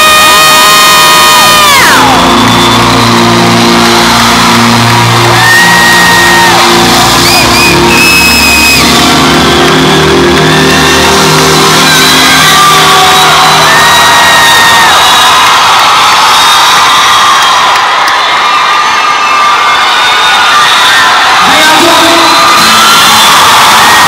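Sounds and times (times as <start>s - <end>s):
crowd shouting: 0.0s - 24.0s
high held screams: 0.0s - 24.0s
live concert music: 0.0s - 24.0s.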